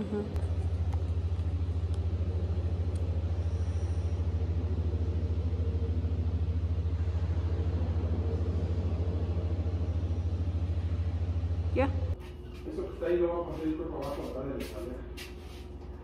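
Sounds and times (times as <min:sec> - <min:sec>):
low throbbing drone: 0:00.0 - 0:14.0.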